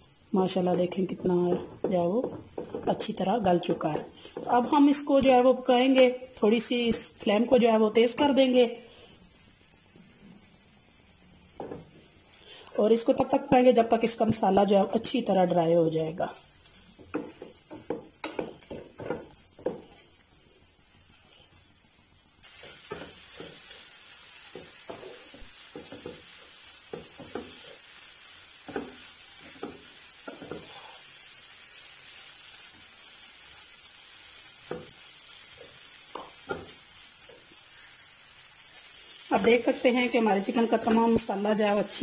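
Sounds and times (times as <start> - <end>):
chicken sizzling in a pan: 0.0 - 42.0.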